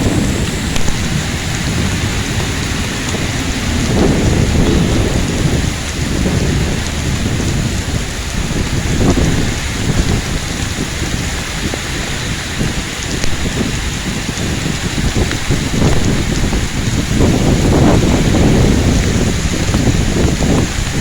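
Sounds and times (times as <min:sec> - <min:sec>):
heavy rain pouring: 0:00.0 - 0:21.0
strong wind rumbling: 0:00.0 - 0:21.0.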